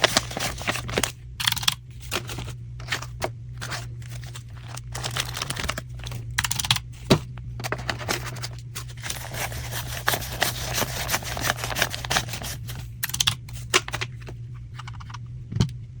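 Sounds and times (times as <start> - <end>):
banknotes rustling and flicking: 0.0 - 15.1
steady low hum: 0.0 - 16.0.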